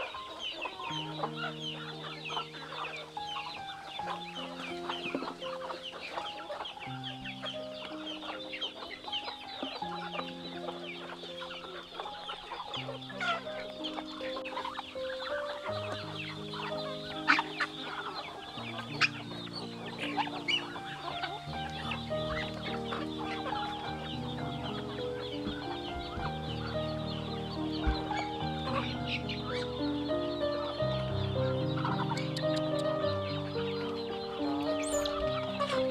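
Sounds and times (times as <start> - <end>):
background music with held notes: 0.0 - 35.9
chickens clucking: 0.0 - 35.9
sharp loud chicken calls: 0.0 - 35.9.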